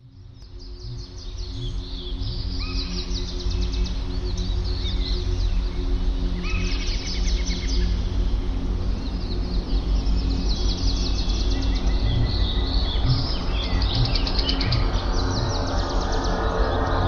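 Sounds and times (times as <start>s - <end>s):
birds chirping in trills: 0.0s - 17.0s
slow ambient music: 0.0s - 17.0s.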